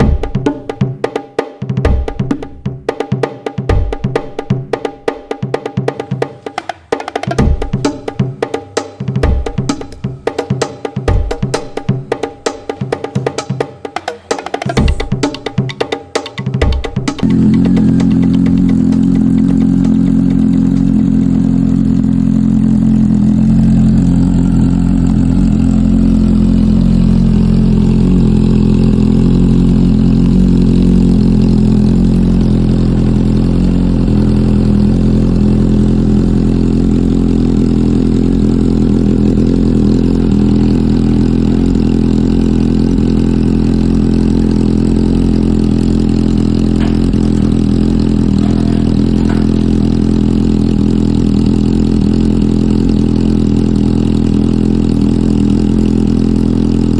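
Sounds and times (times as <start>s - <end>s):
motorcycle engine idling: 5.9s - 56.9s.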